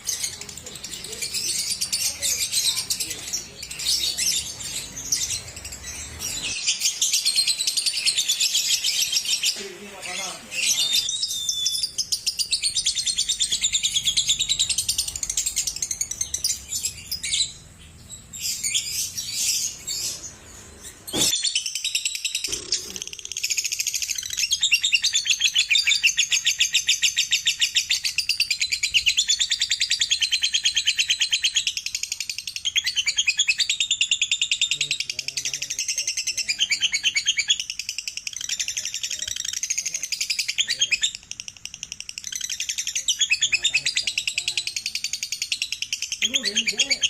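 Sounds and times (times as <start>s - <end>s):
lovebirds chattering trills: 0.0s - 47.0s.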